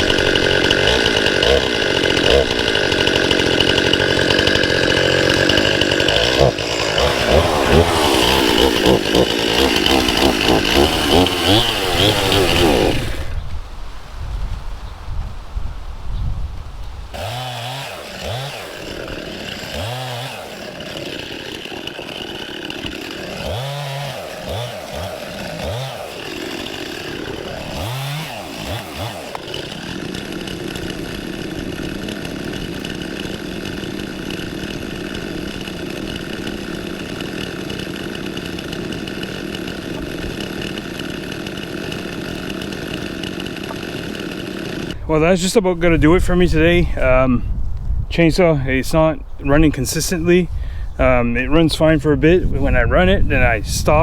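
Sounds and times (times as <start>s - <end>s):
chainsaw cutting log: 0.0s - 13.5s, 17.1s - 47.3s, 48.1s - 54.0s.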